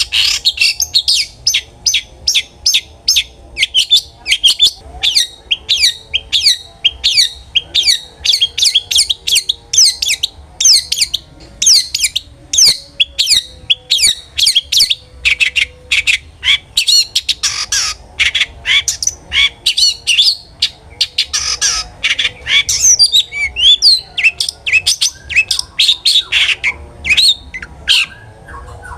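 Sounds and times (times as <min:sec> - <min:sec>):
harsh scratchy bird chatter: 0:00.0 - 0:28.1.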